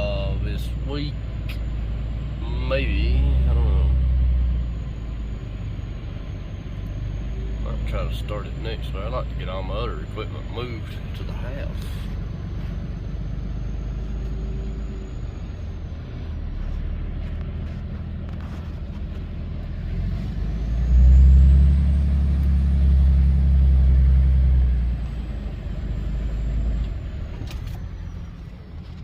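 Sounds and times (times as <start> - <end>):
diesel truck engine: 0.0 - 29.0.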